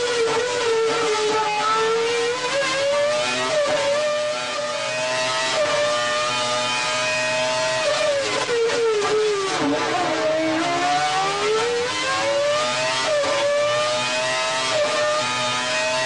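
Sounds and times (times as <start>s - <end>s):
racing car engine high revs: 0.0s - 16.0s.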